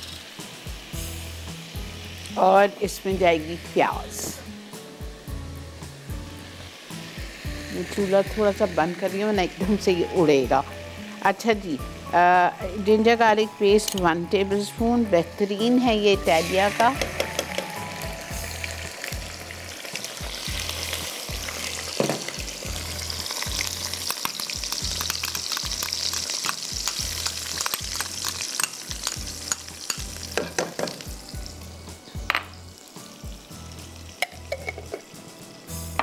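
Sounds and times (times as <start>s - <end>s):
butter and oil sizzling in a pan: 0.0s - 36.0s.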